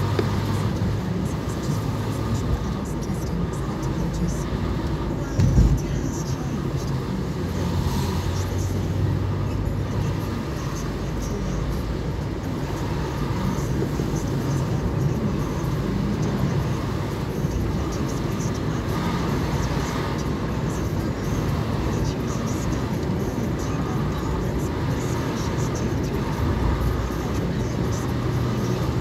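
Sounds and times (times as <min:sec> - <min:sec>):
engine and tyre road noise: 0:00.0 - 0:29.0.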